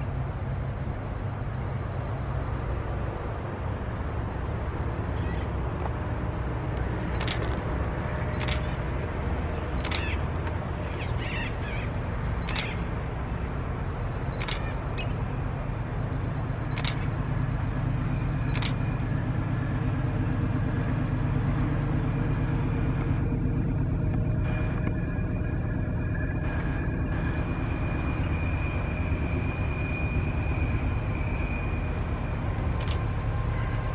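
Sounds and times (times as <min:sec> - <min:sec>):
diesel locomotive rumble: 0:00.0 - 0:33.9
faint high whine: 0:00.0 - 0:33.9.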